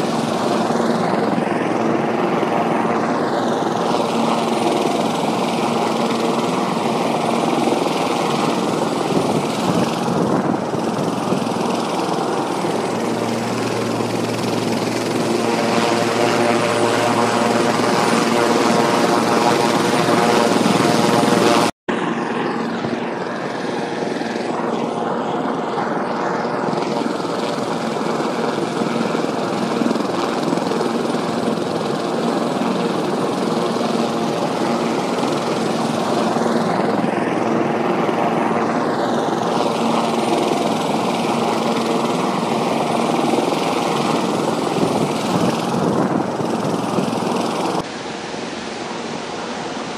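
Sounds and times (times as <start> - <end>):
drone propellers humming: 0.0 - 49.8.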